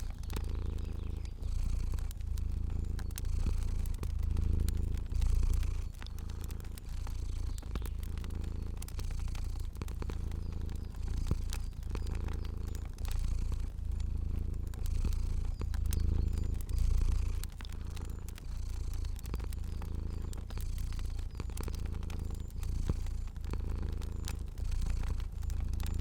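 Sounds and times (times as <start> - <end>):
cat purring: 0.0 - 26.0
fire crackling and popping: 0.0 - 26.0.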